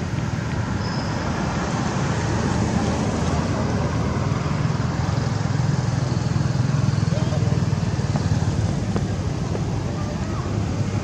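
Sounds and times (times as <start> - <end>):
traffic noise: 0.0 - 11.0
vehicle engine rumbling: 0.0 - 11.0.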